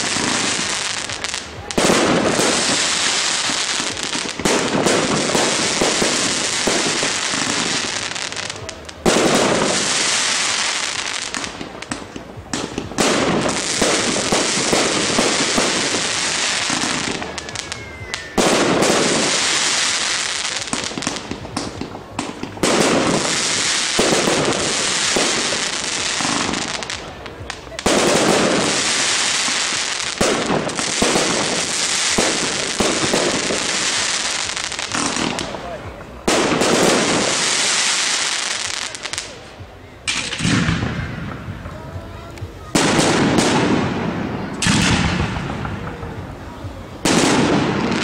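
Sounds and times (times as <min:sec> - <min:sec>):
fireworks bursting: 0:00.0 - 0:48.0
fireworks crackling: 0:00.0 - 0:48.0.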